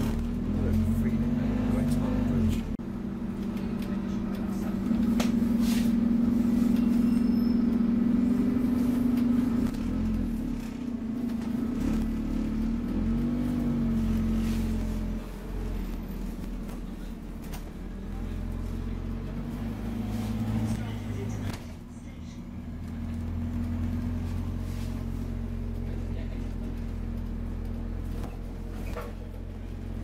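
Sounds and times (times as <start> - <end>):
bus engine humming: 0.0 - 30.0.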